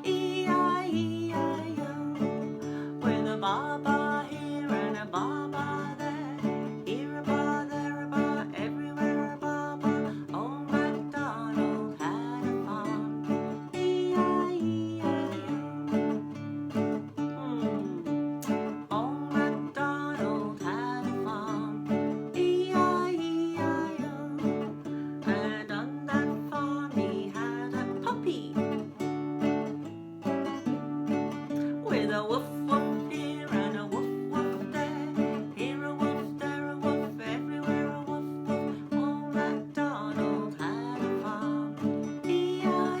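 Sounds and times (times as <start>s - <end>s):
acoustic guitar strumming with melody: 0.0s - 43.0s.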